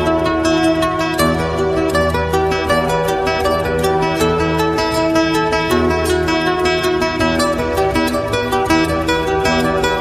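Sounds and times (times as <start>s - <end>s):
acoustic guitar plucked notes: 0.0s - 10.0s.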